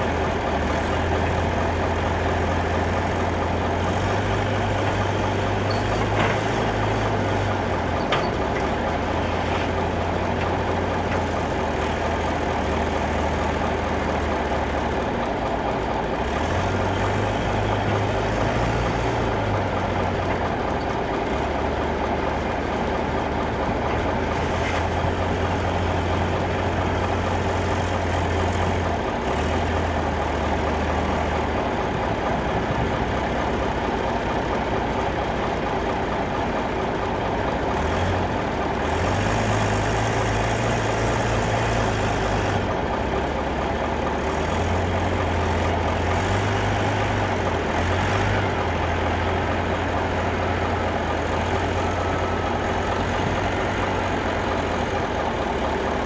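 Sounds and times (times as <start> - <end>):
heavy diesel engine idling: 0.0 - 56.0.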